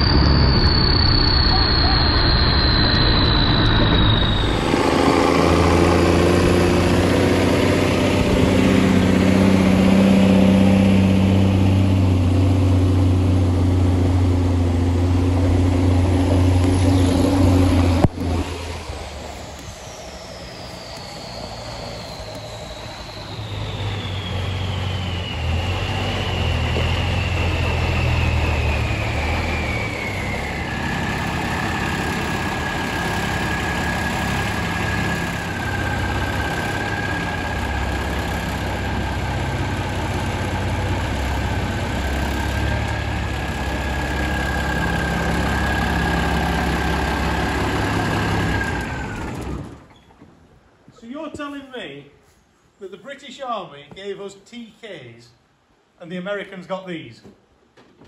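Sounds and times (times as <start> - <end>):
truck engine rumble with whine: 0.0 - 51.1.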